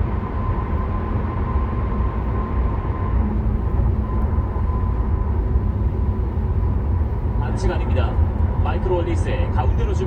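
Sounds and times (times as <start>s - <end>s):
in-cabin road and engine noise: 0.0s - 10.0s.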